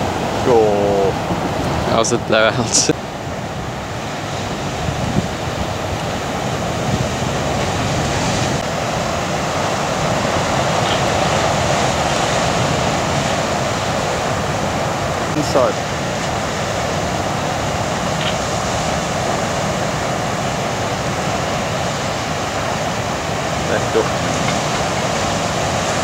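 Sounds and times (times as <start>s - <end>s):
ocean surf breaking: 0.0s - 26.0s.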